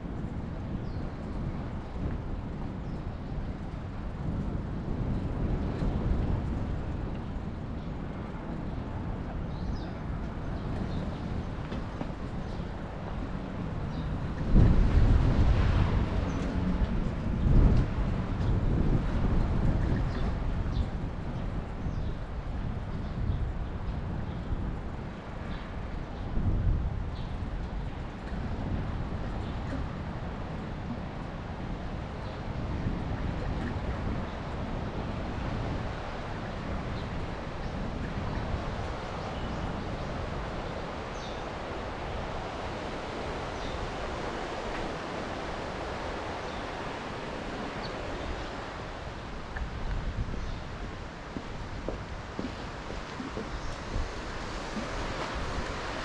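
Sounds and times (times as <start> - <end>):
rumble of passing vehicles: 0.0 - 56.0
wind: 0.0 - 56.0.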